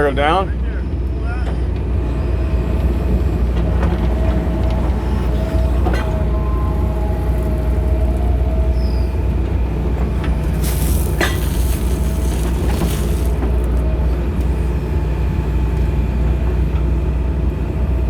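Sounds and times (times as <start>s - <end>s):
diesel engine running: 2.0s - 18.0s.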